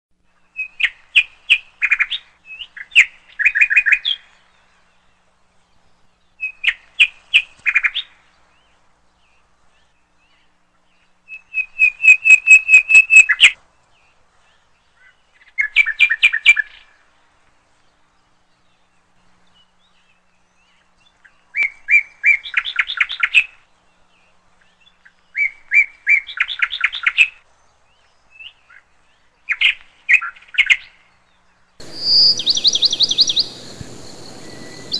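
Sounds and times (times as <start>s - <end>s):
bird chirping: 0.3s - 16.9s, 18.4s - 34.9s.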